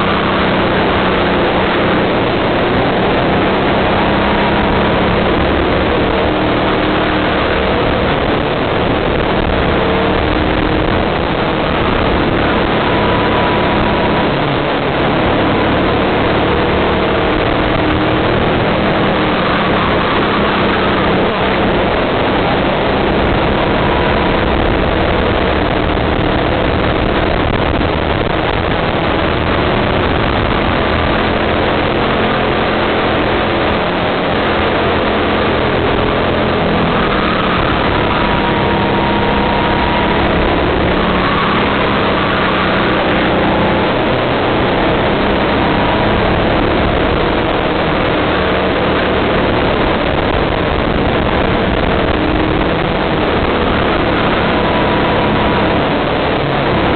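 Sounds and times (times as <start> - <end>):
go-kart engine running: 0.0 - 56.9.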